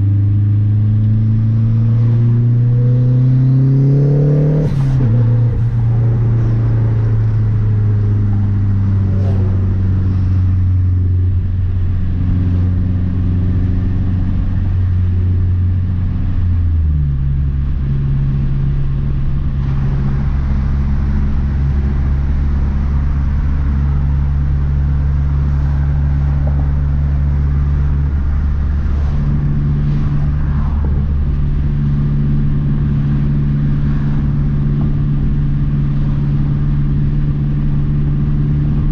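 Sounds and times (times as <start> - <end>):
turbocharged car engine running: 3.2 - 38.9.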